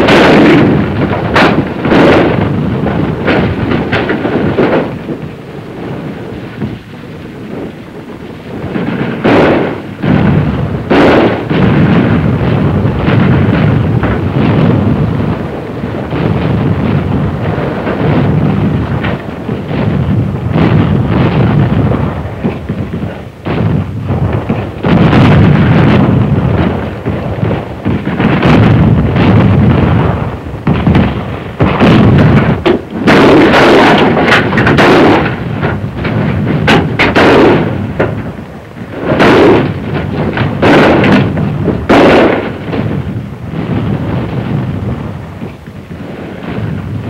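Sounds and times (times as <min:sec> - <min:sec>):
explosions: 0:00.0 - 0:47.0
rifle fire: 0:00.0 - 0:47.0.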